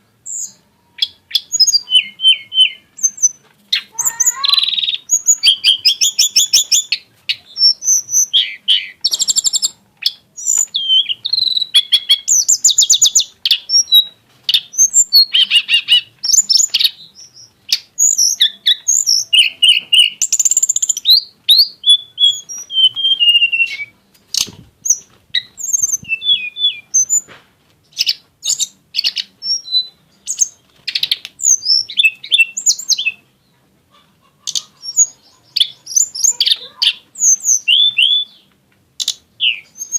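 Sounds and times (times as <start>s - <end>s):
bird singing whistles and trills: 0.2s - 27.3s, 27.9s - 33.3s, 34.5s - 39.9s.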